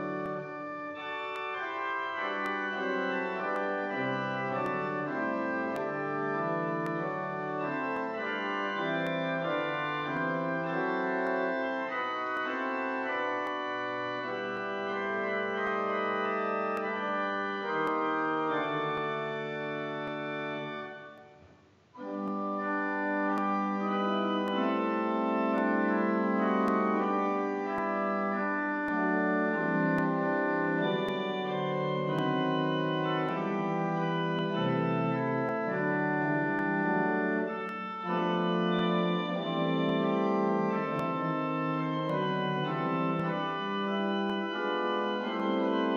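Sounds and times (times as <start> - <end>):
church organ playing chords: 0.0 - 21.4, 22.0 - 45.9.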